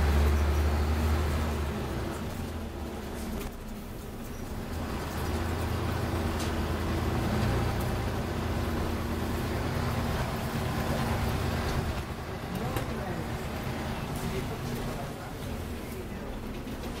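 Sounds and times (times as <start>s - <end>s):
bus engine hum: 0.0s - 17.0s
road noise: 0.0s - 17.0s.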